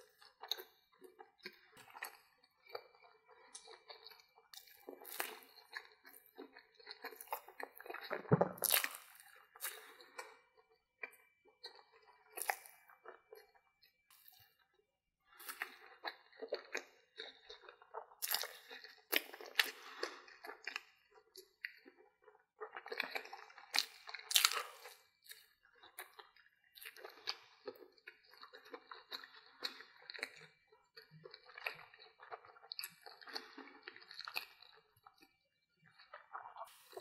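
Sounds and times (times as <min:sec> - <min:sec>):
person chewing and crunching: 0:00.0 - 0:14.7, 0:15.3 - 0:37.0.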